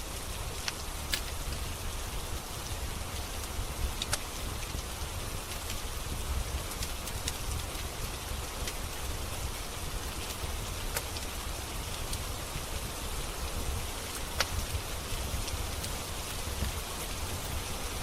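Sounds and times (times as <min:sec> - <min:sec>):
steady rain falling: 0:00.0 - 0:18.0
wood fire popping and crackling: 0:00.1 - 0:18.0.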